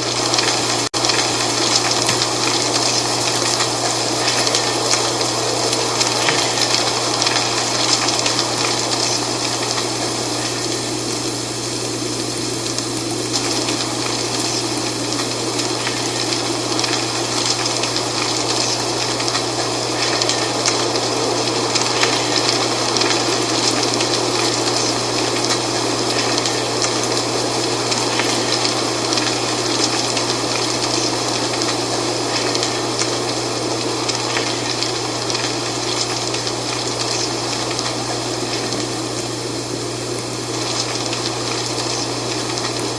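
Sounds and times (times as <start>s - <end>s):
dry leaves rustling in wind: 0.0s - 42.9s.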